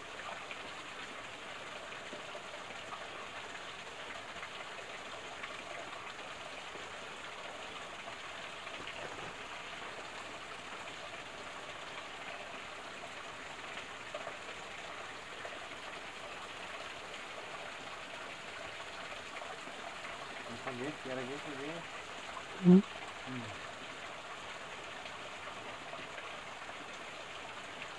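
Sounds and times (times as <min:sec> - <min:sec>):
stream water splashing and trickling: 0:00.0 - 0:27.9.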